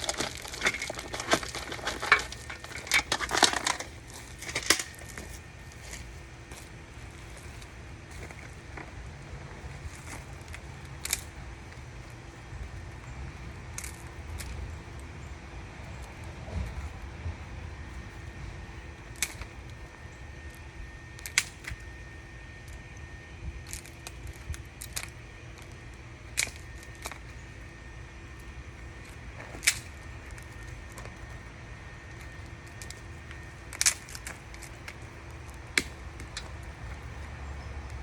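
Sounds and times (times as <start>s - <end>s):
fire crackling and popping: 0.0s - 15.2s, 15.9s - 38.0s.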